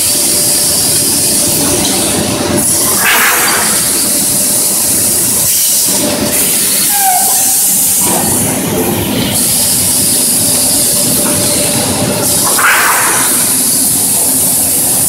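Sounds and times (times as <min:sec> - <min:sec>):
machine clattering: 0:00.7 - 0:06.8, 0:07.4 - 0:15.0
loud high hiss: 0:02.6 - 0:15.0.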